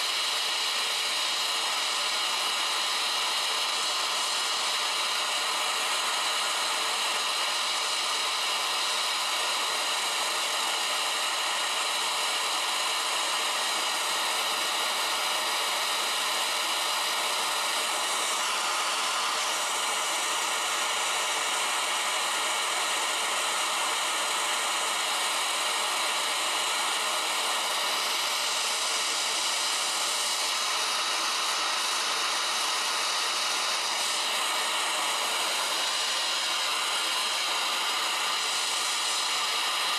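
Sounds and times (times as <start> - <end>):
gas torch flame hissing: 0.0 - 39.9.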